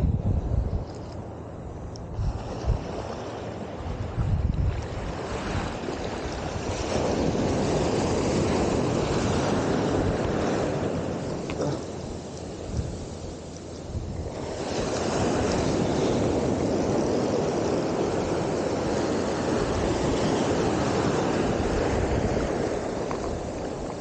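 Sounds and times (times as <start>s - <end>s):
ocean surf breaking: 2.1s - 24.0s.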